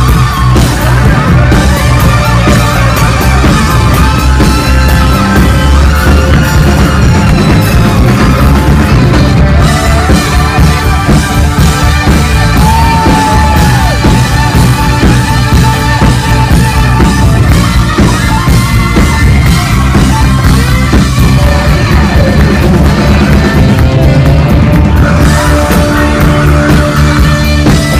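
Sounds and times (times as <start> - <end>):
live rock band playing: 0.0 - 27.9.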